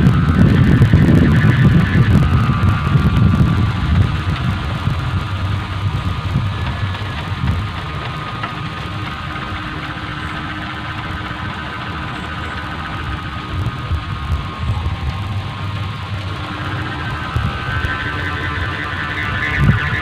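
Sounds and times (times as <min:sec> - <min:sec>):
kite hummer droning: 0:00.0 - 0:20.0
wind buffeting microphone: 0:00.0 - 0:20.0.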